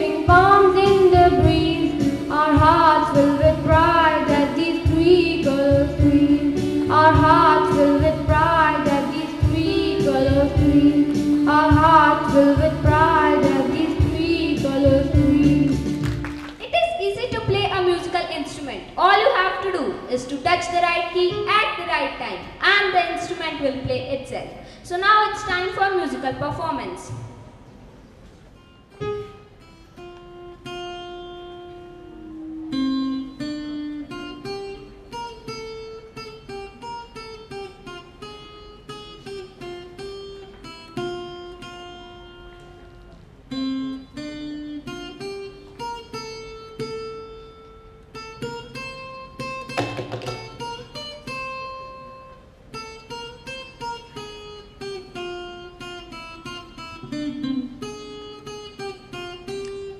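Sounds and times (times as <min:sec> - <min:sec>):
acoustic guitar melody: 0:00.0 - 0:24.3, 0:25.3 - 0:59.9.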